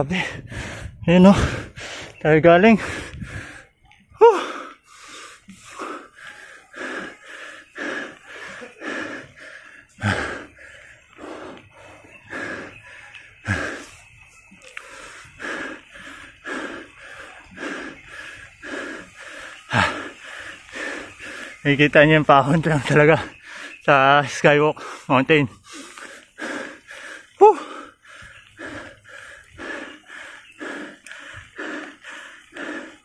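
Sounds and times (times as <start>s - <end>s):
heavy laboured breathing: 0.0s - 33.0s.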